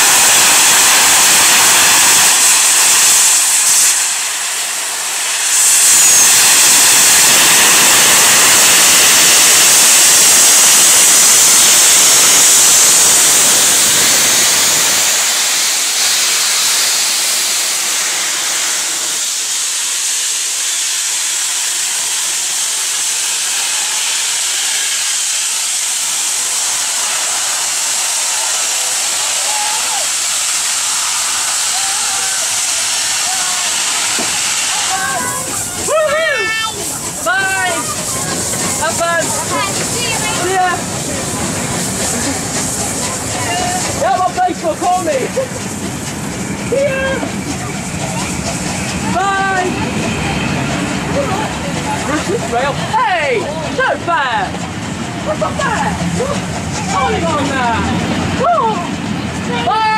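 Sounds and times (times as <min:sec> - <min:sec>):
steam hissing from safety valve: 0:00.0 - 0:58.8.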